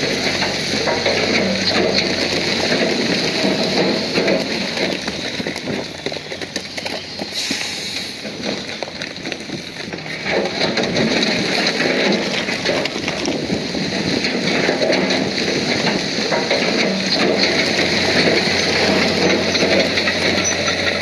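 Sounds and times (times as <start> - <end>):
bulldozer engine running: 0.0 - 21.0
clatter of stones and steel: 0.0 - 21.0.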